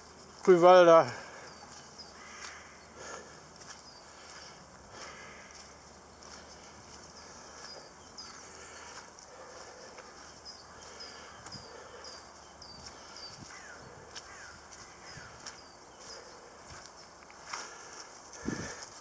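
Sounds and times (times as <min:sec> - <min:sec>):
lower falling bird calls: 0:00.0 - 0:18.8
birds chirping: 0:00.0 - 0:19.0.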